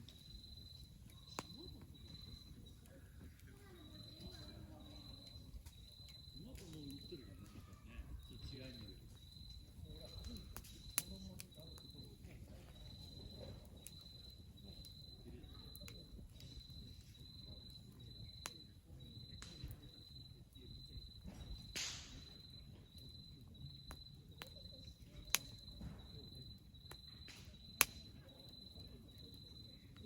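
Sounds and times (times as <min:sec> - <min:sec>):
fire hissing: 0:00.0 - 0:29.9
insect chirping: 0:00.0 - 0:30.0
wood fire crackling and popping: 0:00.0 - 0:30.0.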